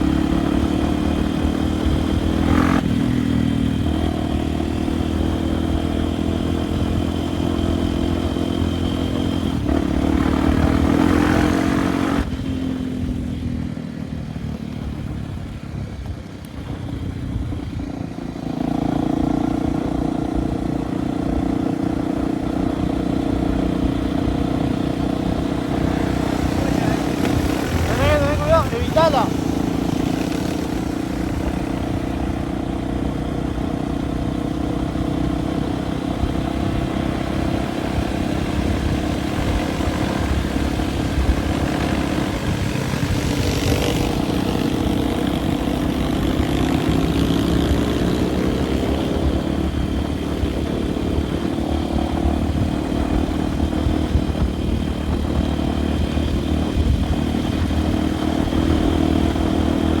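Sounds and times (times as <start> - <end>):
dirt bike engine running: 0.0 - 60.0.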